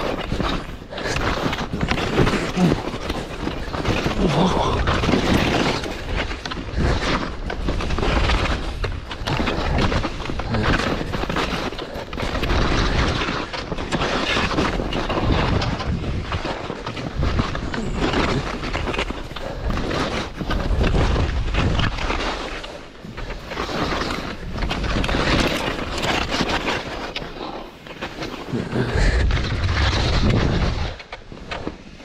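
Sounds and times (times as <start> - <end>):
wind buffeting microphone: 0.0 - 22.2, 28.4 - 32.0
skis scraping through snow: 0.0 - 32.0.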